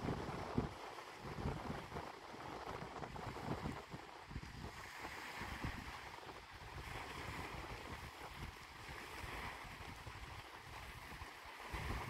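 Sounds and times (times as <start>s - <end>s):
small waves on lake water: 0.0s - 12.0s
wind gusting on microphone: 0.0s - 12.0s.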